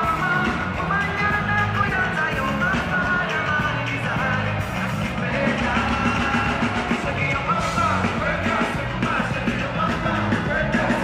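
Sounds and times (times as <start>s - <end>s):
live band music: 0.0s - 11.0s
men singing into microphones: 0.0s - 11.0s.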